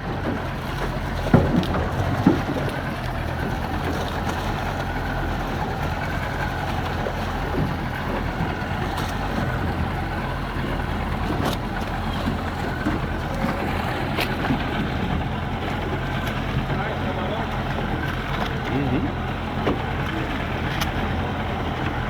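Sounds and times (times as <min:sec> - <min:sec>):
motorboat engine drone: 0:00.0 - 0:22.0
water rushing along hull: 0:00.0 - 0:22.0.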